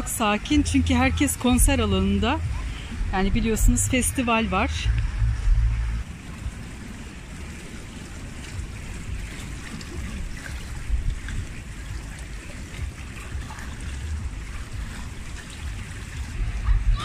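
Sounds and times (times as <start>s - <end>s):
pool water lapping: 0.0s - 17.0s
wind on microphone: 0.0s - 17.0s.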